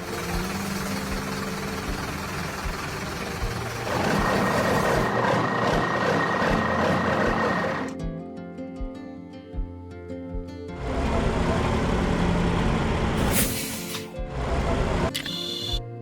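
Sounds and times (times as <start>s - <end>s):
heavy machine engine running: 0.0s - 7.9s, 10.8s - 15.8s.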